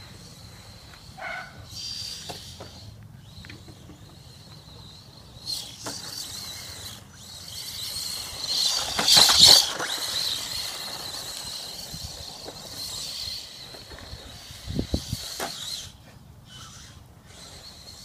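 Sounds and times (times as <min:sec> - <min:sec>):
toy truck driving over dirt: 0:00.0 - 0:18.0.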